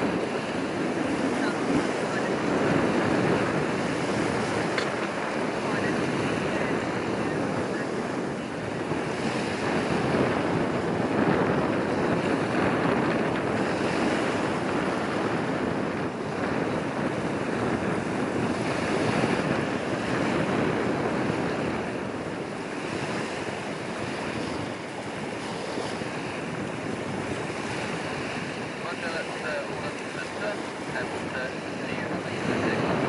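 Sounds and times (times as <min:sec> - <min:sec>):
small waves on choppy water: 0:00.0 - 0:33.0
wind buffeting microphone: 0:00.0 - 0:33.0.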